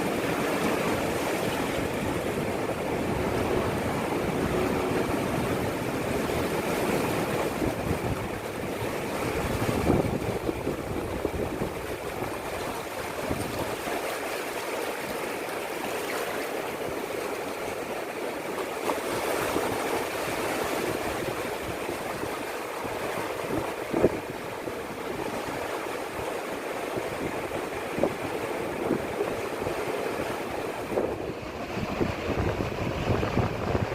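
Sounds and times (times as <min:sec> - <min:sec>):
sea waves washing on beach: 0:00.0 - 0:33.9.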